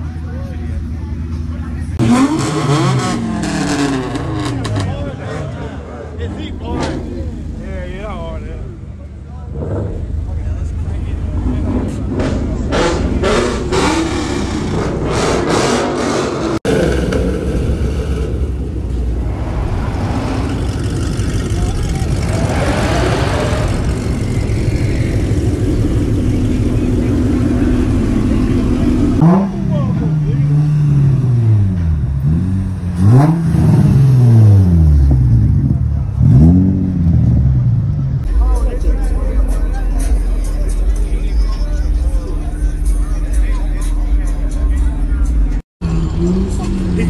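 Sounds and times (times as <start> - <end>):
low engine rumble: 0.0 - 15.2, 16.6 - 47.0
car engines revving: 0.0 - 47.0.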